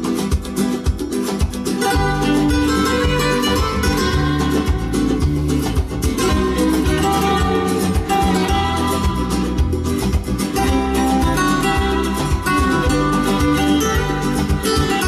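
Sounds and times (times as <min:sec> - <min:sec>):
bass line: 0:00.0 - 0:15.0
guitar music over loudspeakers: 0:00.0 - 0:15.0.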